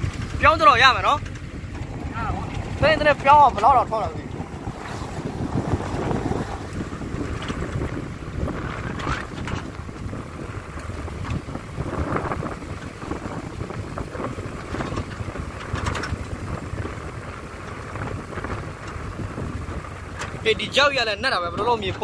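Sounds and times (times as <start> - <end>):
engine and road rumble: 0.0 - 22.0
wind buffeting microphone: 0.0 - 22.0.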